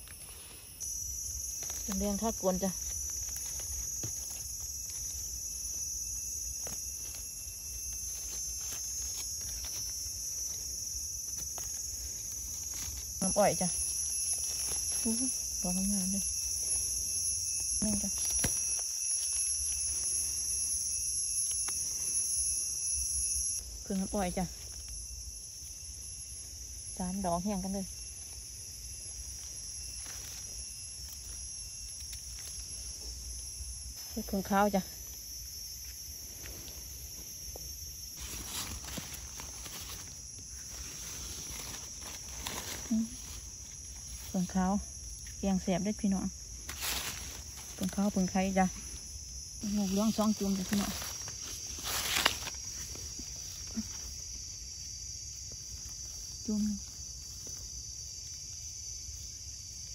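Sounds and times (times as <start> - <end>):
leaf litter rustling: 0.0 - 22.8, 23.6 - 54.6
insects chorus: 0.0 - 59.9.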